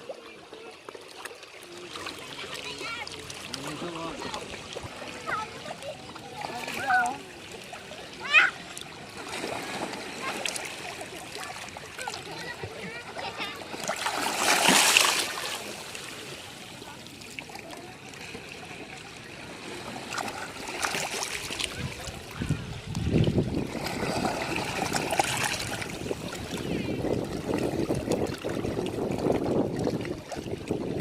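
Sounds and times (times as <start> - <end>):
ocean waves washing on beach: 1.6 - 31.0.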